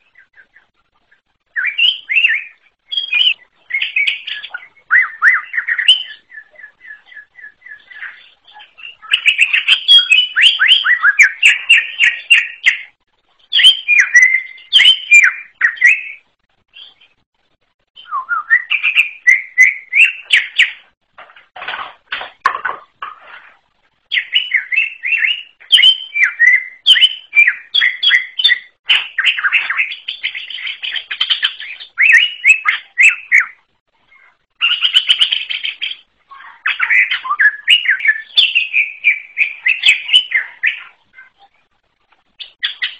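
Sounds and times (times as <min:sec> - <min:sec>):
bird singing whistles and trills: 0:01.5 - 0:17.2, 0:18.0 - 0:21.0, 0:24.1 - 0:41.4, 0:42.4 - 0:42.9.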